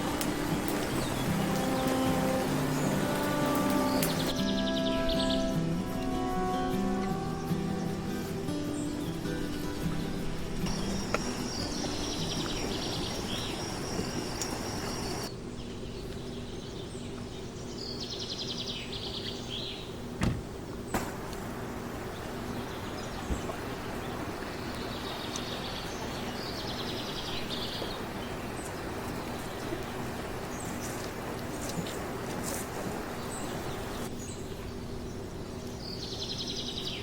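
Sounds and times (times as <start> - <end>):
steady background noise: 0.0 - 4.4, 5.6 - 37.0.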